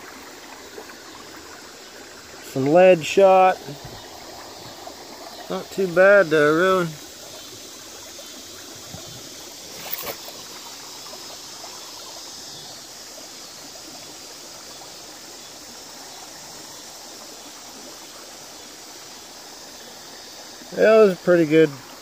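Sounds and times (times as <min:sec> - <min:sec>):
creek flowing: 0:00.0 - 0:22.0.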